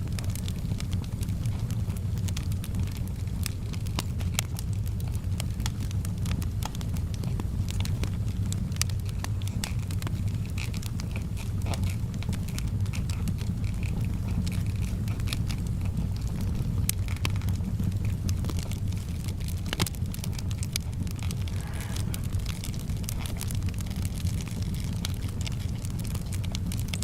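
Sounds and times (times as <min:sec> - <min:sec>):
fire crackling and popping: 0:00.0 - 0:27.0
low fire rumble: 0:00.0 - 0:27.0.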